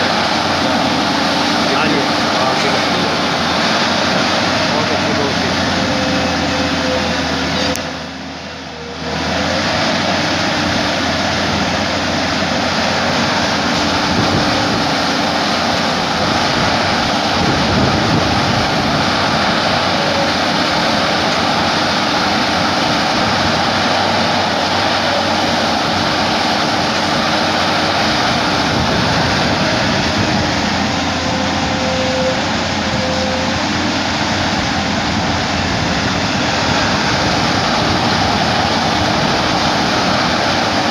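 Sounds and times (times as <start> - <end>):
excavator engine roar: 0.0 - 40.9.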